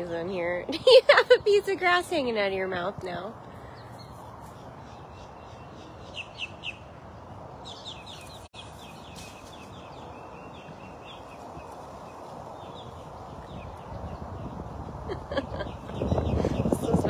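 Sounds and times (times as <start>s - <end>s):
outdoor background hiss: 0.0s - 17.0s
songbird chirping: 1.1s - 17.0s.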